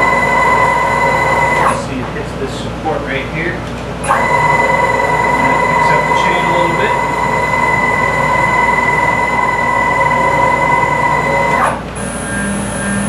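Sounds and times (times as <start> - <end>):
faint very high whine: 0.0 - 1.9, 4.0 - 13.0
stepper motors whining: 0.0 - 2.0, 4.0 - 13.0.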